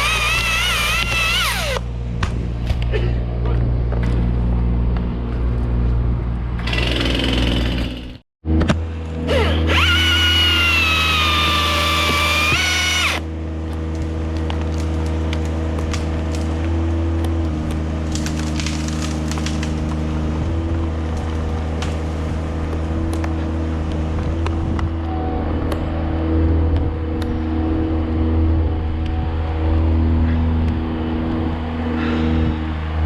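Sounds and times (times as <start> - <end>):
engine running steadily: 0.0 - 10.2, 11.2 - 33.0.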